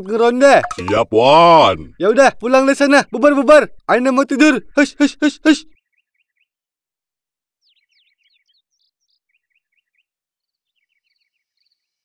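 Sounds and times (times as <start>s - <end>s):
faint birds chirping: 0.0s - 6.8s, 7.4s - 12.0s.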